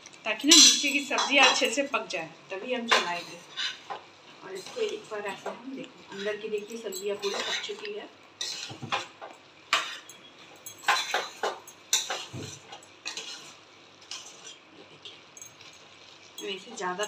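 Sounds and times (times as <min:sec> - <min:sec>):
metal spoon scraping a pan: 0:02.8 - 0:17.0.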